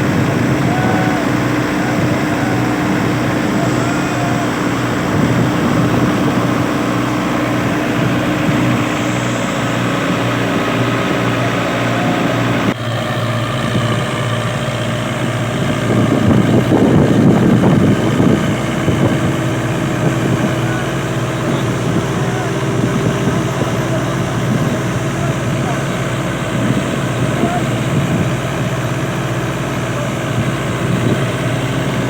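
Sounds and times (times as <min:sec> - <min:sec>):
thresher machine droning: 0:00.0 - 0:32.0.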